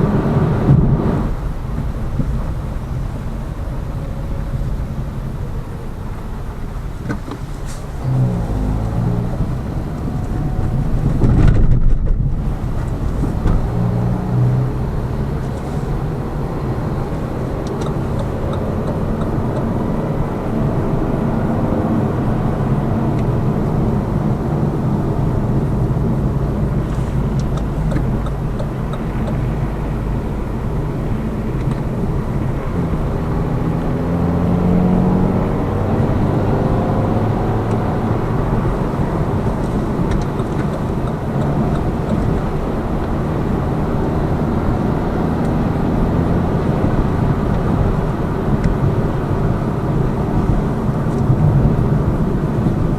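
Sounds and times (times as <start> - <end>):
car engine hum: 0.0 - 52.9
tyre and road rumble: 0.0 - 52.9.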